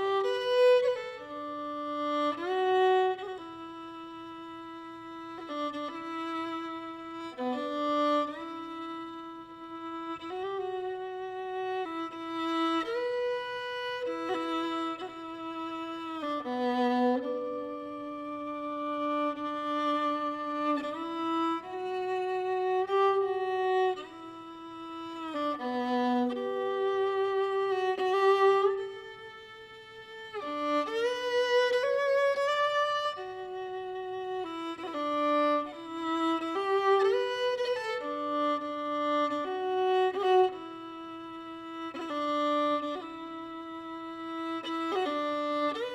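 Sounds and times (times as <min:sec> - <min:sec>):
solo violin slow melody: 0:00.0 - 0:45.9.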